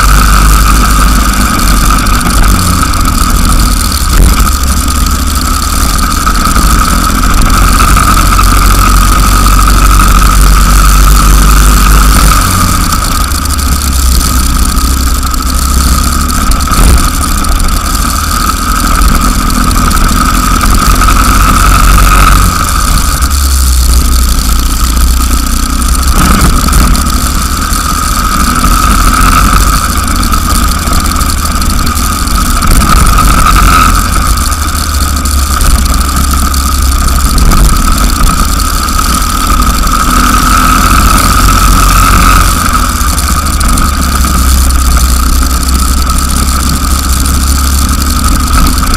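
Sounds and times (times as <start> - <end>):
heavy low rumble: 0.0 - 48.9
kart engine buzzing: 0.0 - 48.9.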